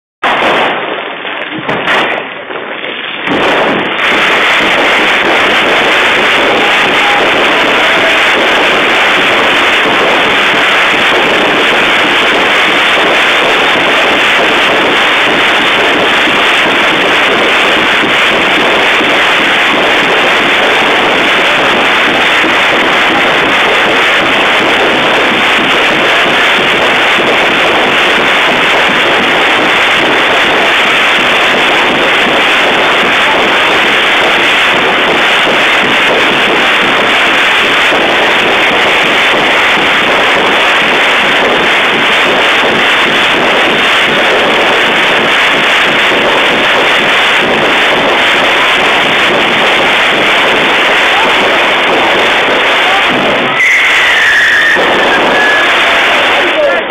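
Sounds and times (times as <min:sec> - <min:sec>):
firework bursts: 0:00.2 - 0:56.9
firework crackling: 0:00.2 - 0:56.9.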